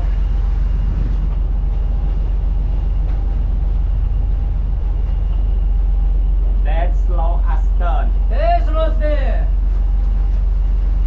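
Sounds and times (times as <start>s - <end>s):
faint steady whine: 0.0s - 11.0s
ship engine drone: 0.0s - 11.0s.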